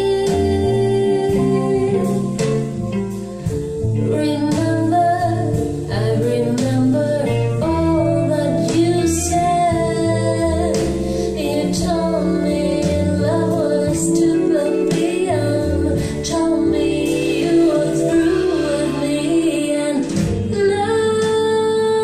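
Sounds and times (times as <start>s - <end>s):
stepping bass line: 0.0s - 21.6s
woman singing: 0.0s - 22.0s.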